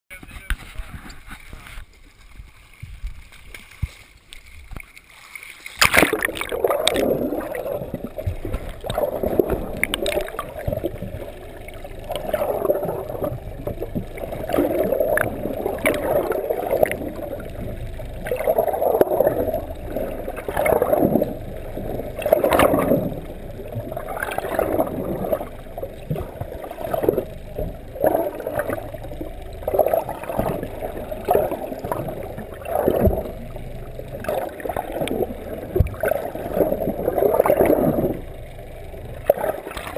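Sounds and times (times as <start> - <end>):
muffled water rushing and gurgling: 0.1 - 39.9
water splashing: 0.1 - 39.9.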